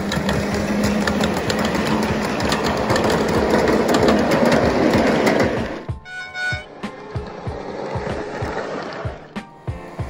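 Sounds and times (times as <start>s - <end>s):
miniature train rumbling: 0.0s - 10.0s
wheels clicking over rail joints: 0.0s - 10.0s.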